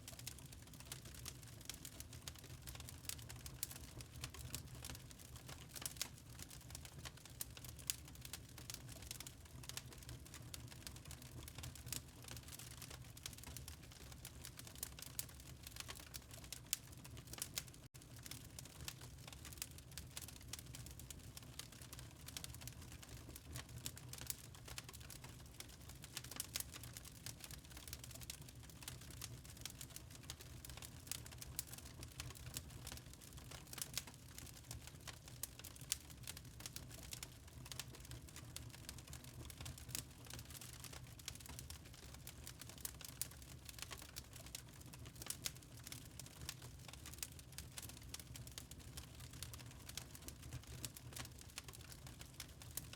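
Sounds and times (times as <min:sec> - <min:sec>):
fire crackling in fireplace: 0:00.0 - 0:52.9.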